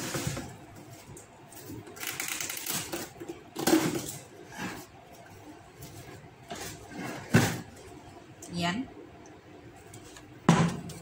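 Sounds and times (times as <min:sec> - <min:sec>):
kitchen items rustling and clattering: 0:00.0 - 0:08.0, 0:09.8 - 0:11.0.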